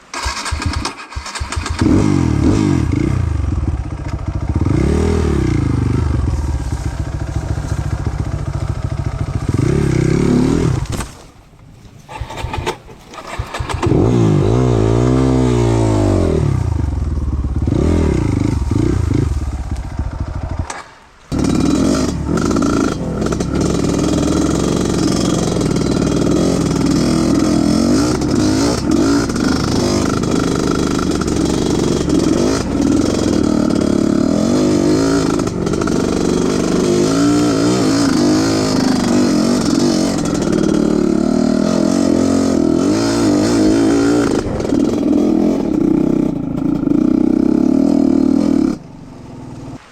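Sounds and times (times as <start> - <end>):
motorcycle engine revving: 0.0 - 11.0, 12.1 - 49.8.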